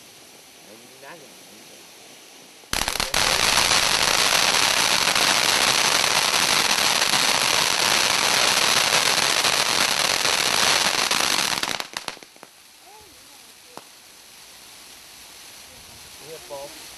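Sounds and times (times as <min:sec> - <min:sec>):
fireworks fountain crackling: 0:00.0 - 0:16.9.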